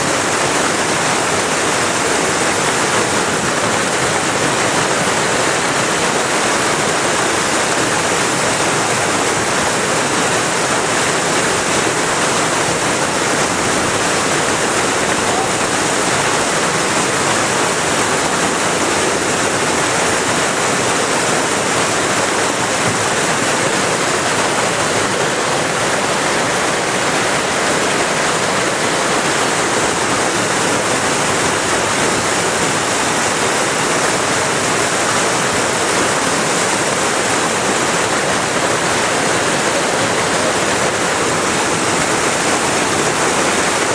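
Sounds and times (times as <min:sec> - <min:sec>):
rushing white water: 0:00.0 - 0:43.9.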